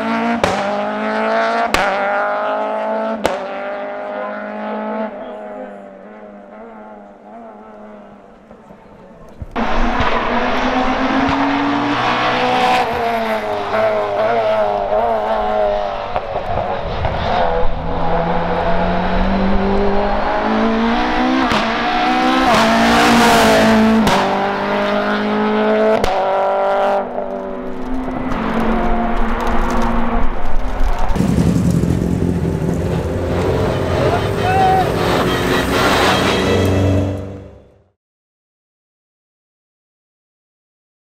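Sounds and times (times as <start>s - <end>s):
racing car engine at full throttle: 0.0s - 37.9s.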